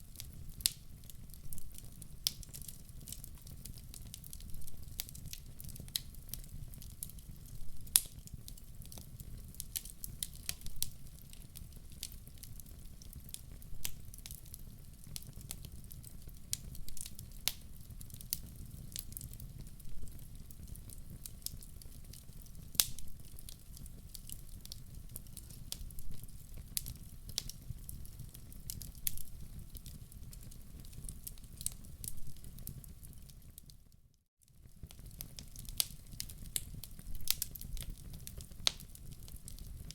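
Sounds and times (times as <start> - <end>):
fire low rumble: 0.0 - 33.5
fire crackling and popping: 0.0 - 39.9.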